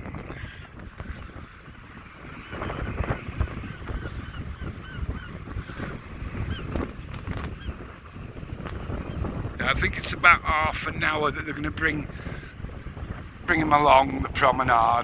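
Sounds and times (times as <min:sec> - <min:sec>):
birds honking calls: 0:00.0 - 0:13.9
wind buffeting microphone: 0:00.0 - 0:15.0.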